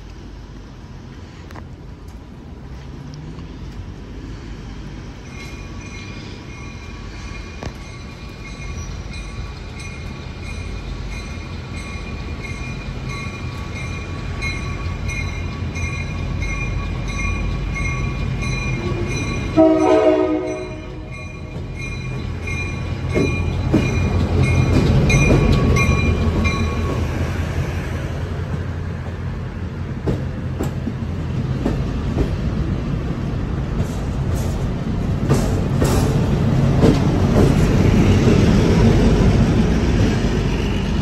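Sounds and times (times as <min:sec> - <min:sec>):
diesel locomotive engine rumble: 0:00.0 - 0:41.0.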